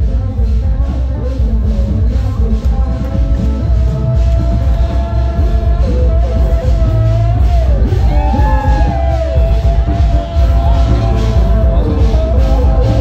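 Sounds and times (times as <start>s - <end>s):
loud music with heavy bass beat: 0.0s - 13.0s.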